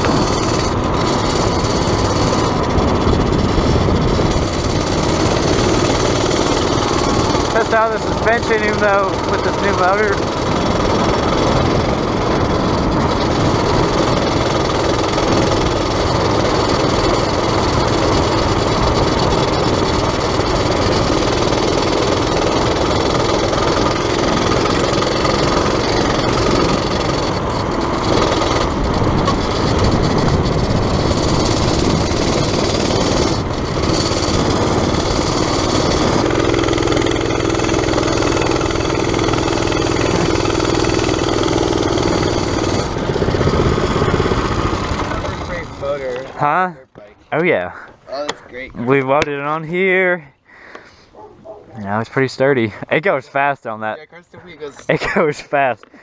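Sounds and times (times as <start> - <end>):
rushing wind noise: 0.0 - 46.1
dirt bike engine: 0.0 - 56.0.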